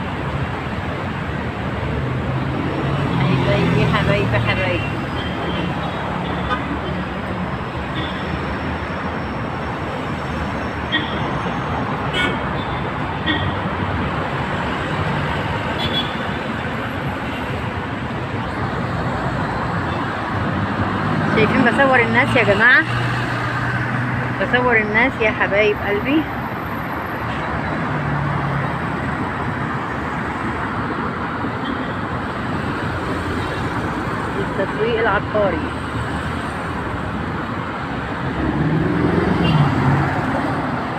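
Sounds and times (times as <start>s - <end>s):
cars passing: 0.0s - 40.9s.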